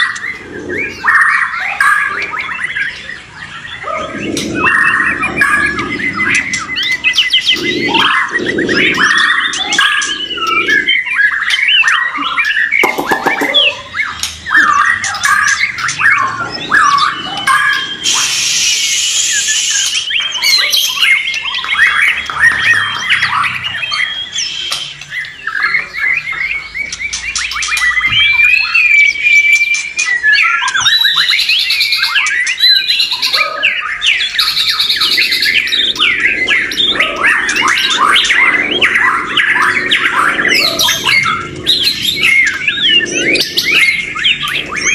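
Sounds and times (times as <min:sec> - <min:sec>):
birds singing: 0:00.0 - 0:44.9.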